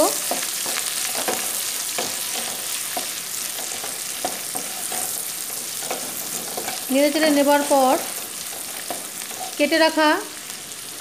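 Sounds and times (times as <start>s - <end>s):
onions sizzling in hot oil: 0.0s - 11.0s
wooden spatula scraping pan: 0.2s - 9.8s.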